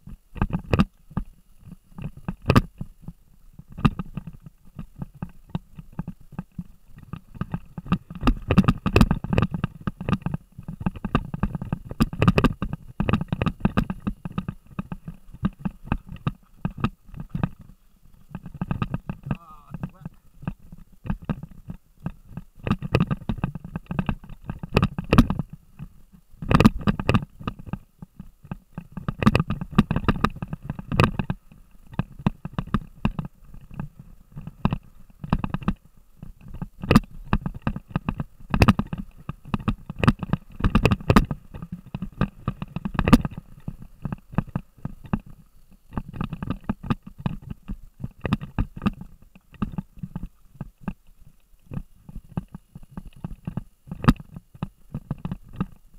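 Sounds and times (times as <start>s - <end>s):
camera housing knocking and rattling: 2.0s - 2.9s, 3.7s - 35.8s, 36.4s - 51.0s, 51.7s - 55.8s.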